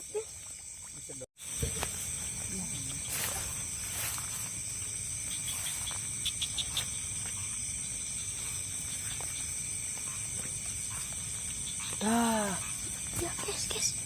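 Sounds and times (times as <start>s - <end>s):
crickets chirring: 0.0s - 14.0s
short insect chirps: 0.0s - 14.0s.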